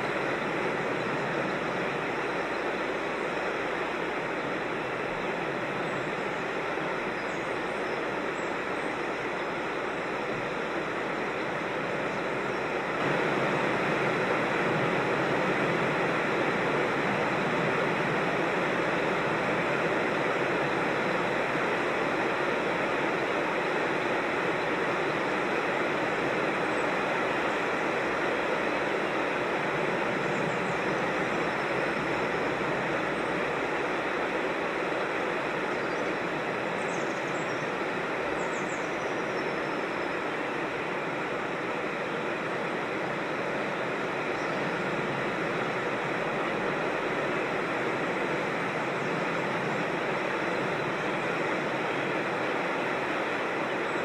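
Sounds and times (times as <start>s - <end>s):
creek water over rocks: 0.0s - 54.0s.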